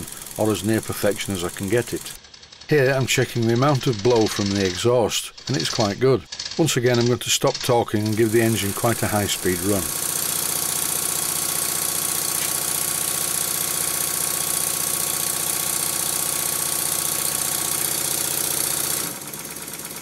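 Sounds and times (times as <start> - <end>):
model steam engine clattering: 0.0 - 20.0.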